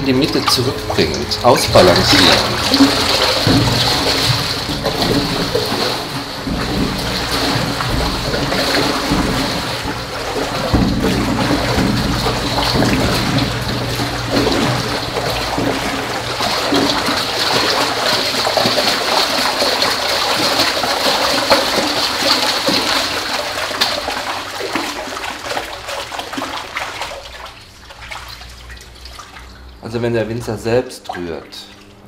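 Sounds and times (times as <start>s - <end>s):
water stirred with wooden stick: 0.0s - 29.8s.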